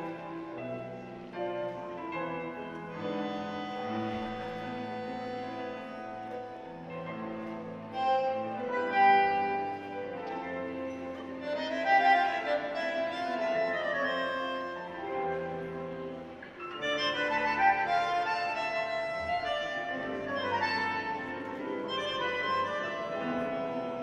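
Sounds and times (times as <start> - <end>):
tango music over sound system: 0.0 - 24.0.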